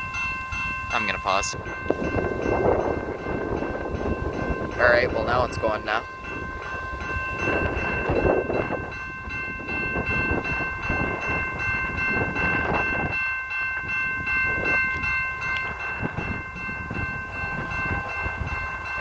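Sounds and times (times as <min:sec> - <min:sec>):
level crossing bell ringing: 0:00.0 - 0:19.0.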